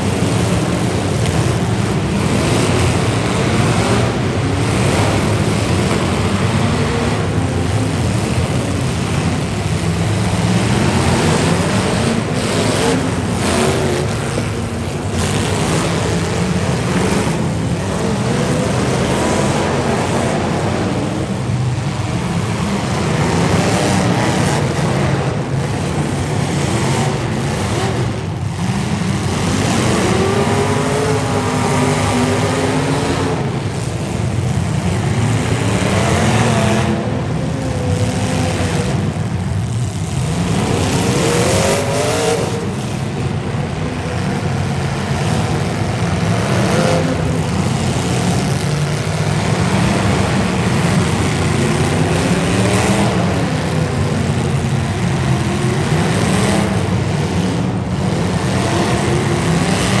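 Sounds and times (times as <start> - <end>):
car engines revving: 0.0 - 60.0.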